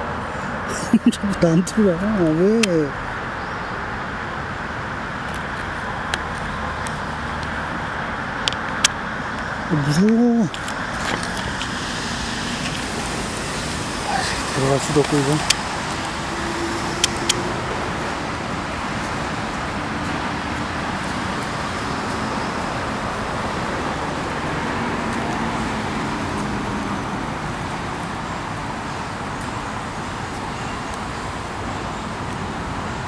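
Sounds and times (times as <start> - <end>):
road traffic noise: 0.0 - 33.0.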